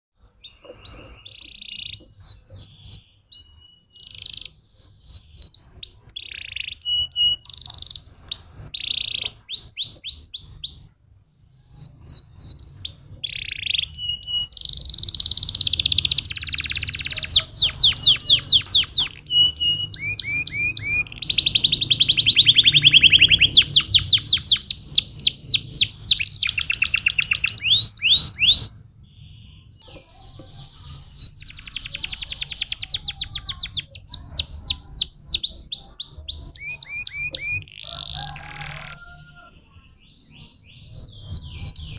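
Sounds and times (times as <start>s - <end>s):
canary singing trills: 0.2s - 41.9s.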